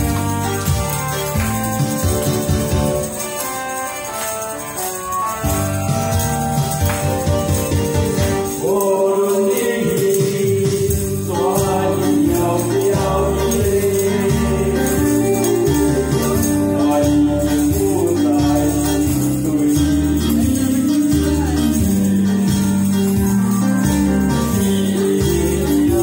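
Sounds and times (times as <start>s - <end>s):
karaoke music over sound system: 0.0s - 26.0s.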